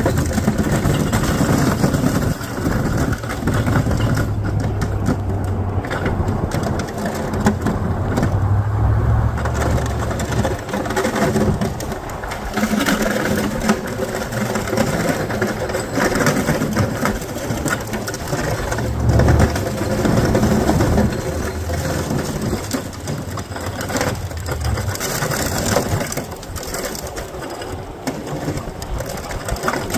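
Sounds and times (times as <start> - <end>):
truck engine hum: 0.0 - 28.0
plow blade scraping snow: 0.0 - 29.9.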